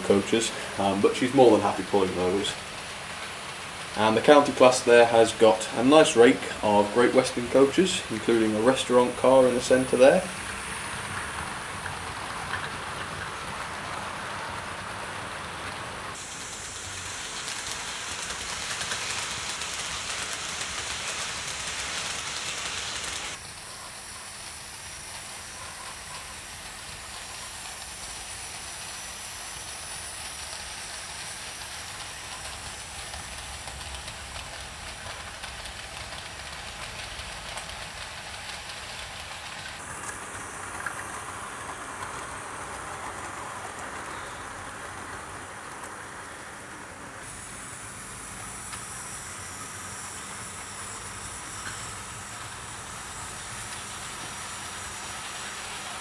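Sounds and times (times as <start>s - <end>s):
model trains running on rails: 0.0s - 56.0s.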